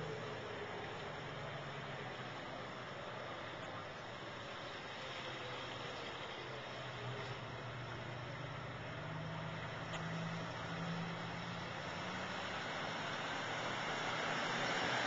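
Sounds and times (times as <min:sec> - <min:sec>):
outdoor street noise: 0:00.0 - 0:15.0.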